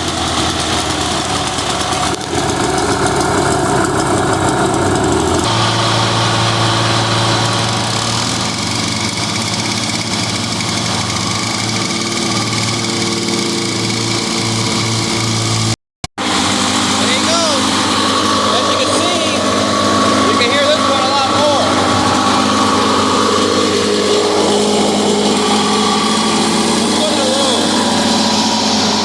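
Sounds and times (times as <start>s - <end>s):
lawn mower engines running: 0.0s - 29.0s.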